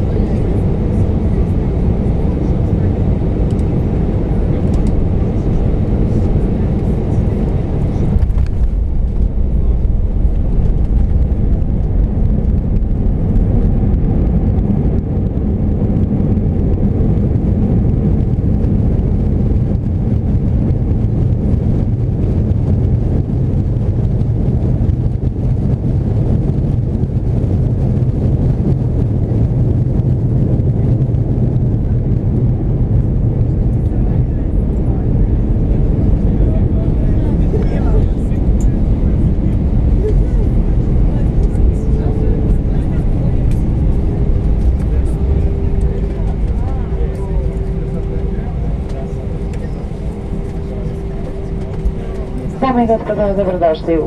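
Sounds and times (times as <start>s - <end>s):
airplane cabin rumble: 0.0s - 54.0s
low steady hum: 0.0s - 54.0s.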